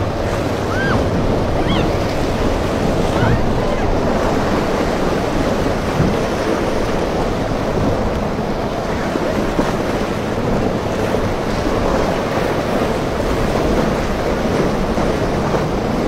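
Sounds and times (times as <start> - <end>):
surf and breaking waves: 0.0 - 16.0
wind buffeting microphone: 0.0 - 16.0.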